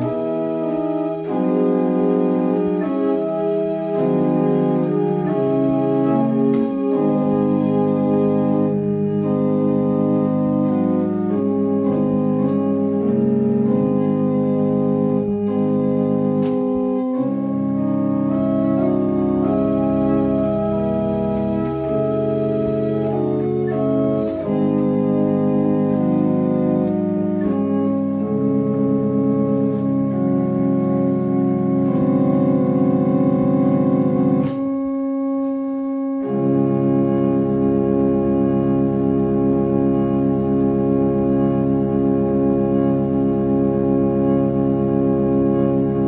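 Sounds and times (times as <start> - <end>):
chamber organ chords: 0.0 - 46.0.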